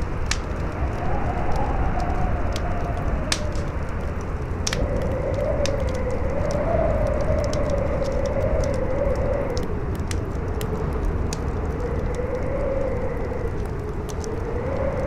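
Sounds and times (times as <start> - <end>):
campfire crackling: 0.0 - 15.0
howling wind: 0.0 - 15.0.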